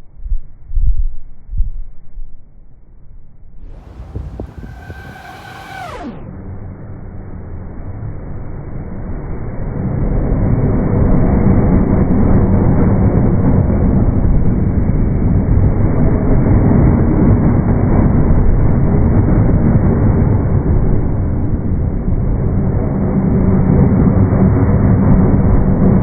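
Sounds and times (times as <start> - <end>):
train passing deep rumble: 3.7 - 26.0.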